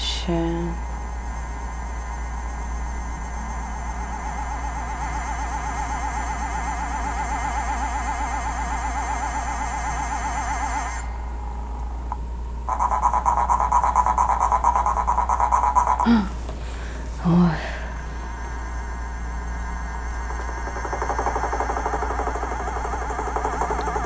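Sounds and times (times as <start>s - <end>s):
warbling tone with vibrato: 0.0s - 16.3s, 17.2s - 24.0s
rapidly pulsing tone: 0.0s - 16.4s, 17.0s - 24.0s.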